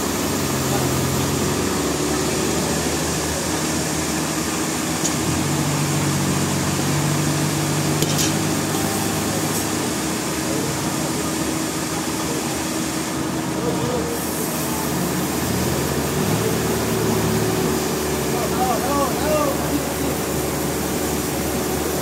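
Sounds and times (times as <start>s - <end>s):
sawmill machinery humming: 0.0s - 22.0s.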